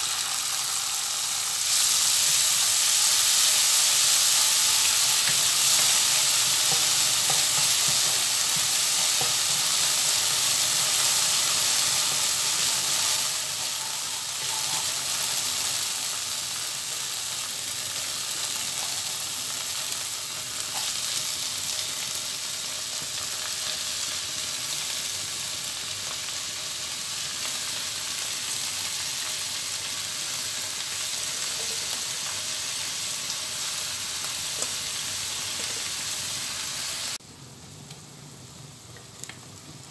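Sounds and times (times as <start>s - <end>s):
garlic sizzling in hot oil: 0.0s - 39.9s.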